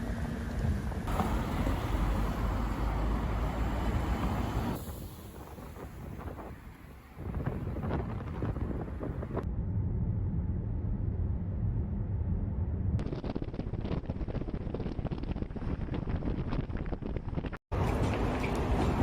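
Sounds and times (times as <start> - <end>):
wind buffeting microphone: 0.7 - 10.6, 11.4 - 19.0.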